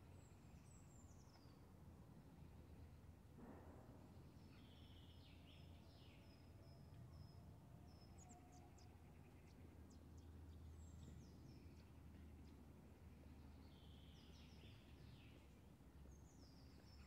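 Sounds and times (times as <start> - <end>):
distant bird calls and chirps: 0.0 - 17.0.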